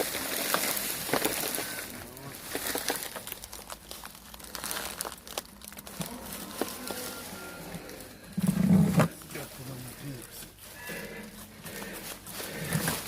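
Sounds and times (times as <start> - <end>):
dry leaves crinkling and snapping: 0.0 - 8.3, 9.1 - 13.0.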